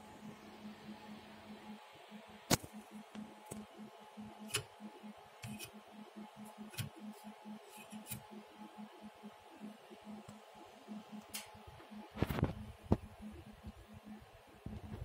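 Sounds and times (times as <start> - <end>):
faint pulsing low hum: 0.0 - 15.0.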